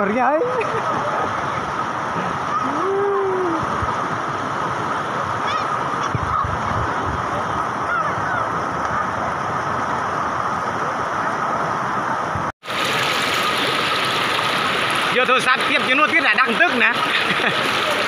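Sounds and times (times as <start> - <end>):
river water rushing over rocks: 0.2 - 18.0.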